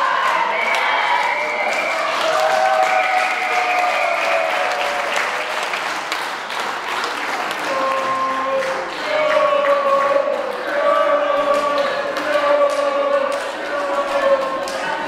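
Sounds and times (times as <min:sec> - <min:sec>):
crowd applauding and cheering: 0:00.0 - 0:15.0.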